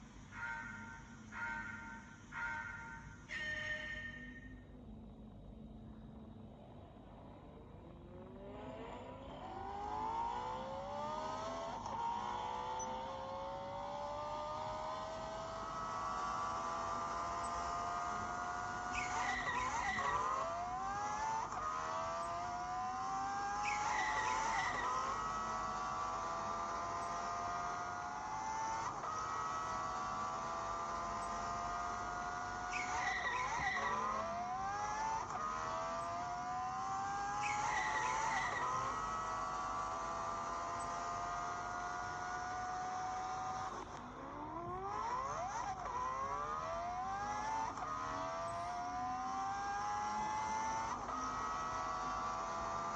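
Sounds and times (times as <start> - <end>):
race car engine accelerating: 6.6 - 52.9.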